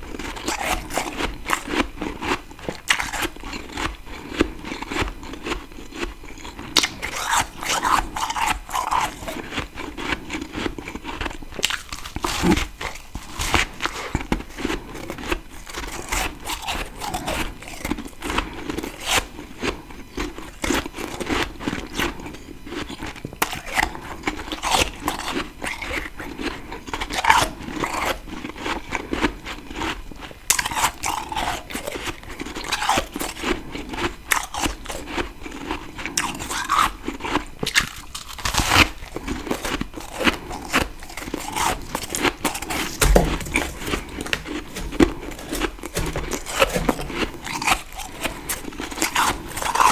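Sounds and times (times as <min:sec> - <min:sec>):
frost being chewed crunching: 0:00.1 - 0:19.8, 0:20.4 - 0:49.9.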